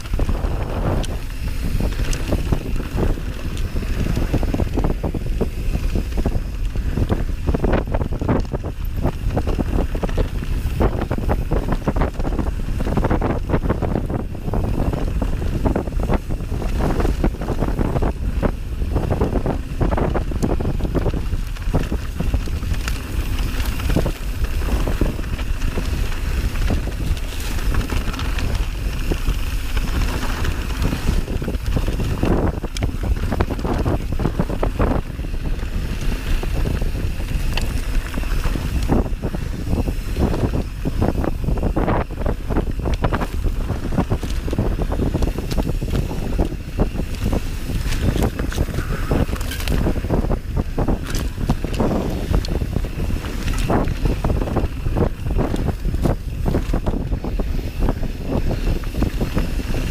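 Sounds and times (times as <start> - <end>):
bike clicks and rattles: 0.0 - 59.9
wind buffeting microphone: 0.0 - 59.9.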